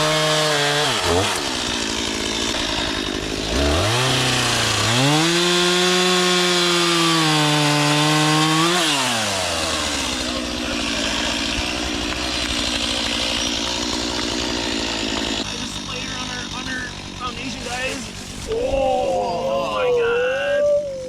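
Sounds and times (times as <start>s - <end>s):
chainsaw revving and idling: 0.0s - 18.6s.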